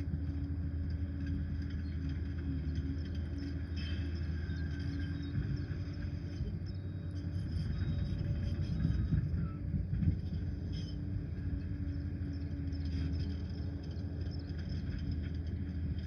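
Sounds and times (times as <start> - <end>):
dozer diesel engine running: 0.0 - 16.0.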